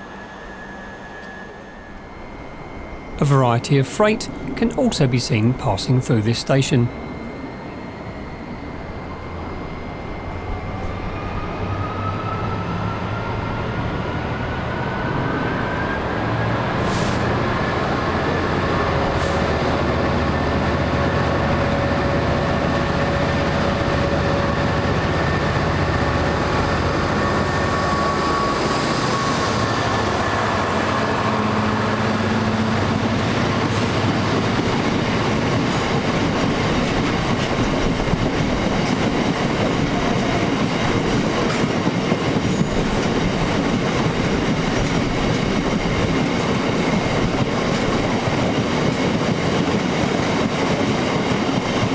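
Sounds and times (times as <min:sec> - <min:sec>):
diesel locomotive engine: 0:00.0 - 0:51.9.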